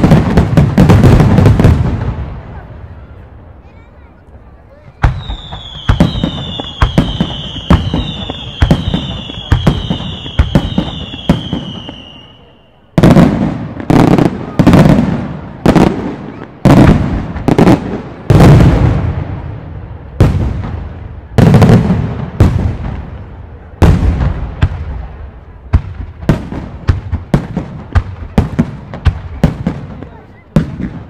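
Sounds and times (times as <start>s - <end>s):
firework bangs with rolling echo: 0.0s - 3.4s, 4.8s - 31.0s
sharp firework cracks: 5.0s - 31.0s.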